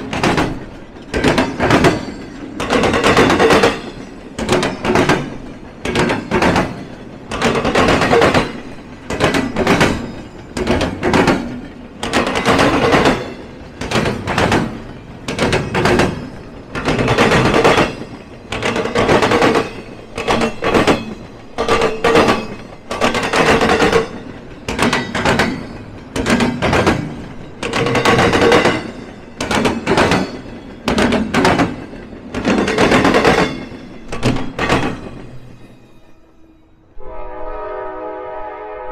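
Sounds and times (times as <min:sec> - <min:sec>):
train wheels clattering: 0:00.0 - 0:36.1.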